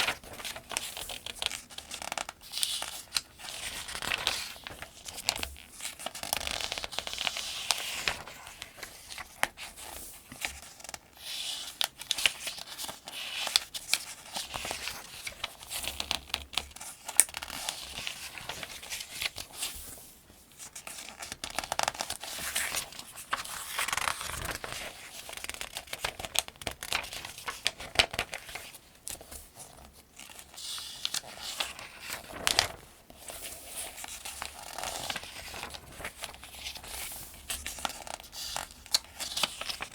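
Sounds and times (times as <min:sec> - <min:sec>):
paper pages turning: 0:00.0 - 0:20.0, 0:20.6 - 0:39.9.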